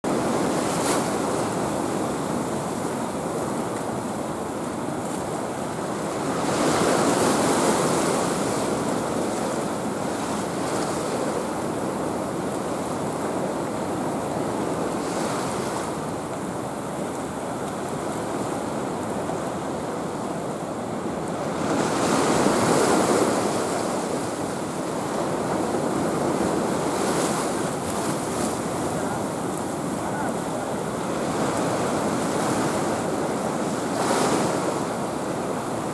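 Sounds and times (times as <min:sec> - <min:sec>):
sea waves washing: 0:00.1 - 0:35.9.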